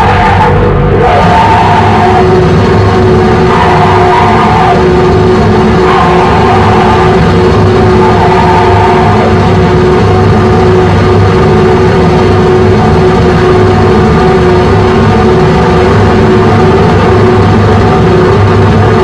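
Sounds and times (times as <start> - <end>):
harsh electronic noise music: 0.0 - 19.0
steady held tone: 0.0 - 19.0.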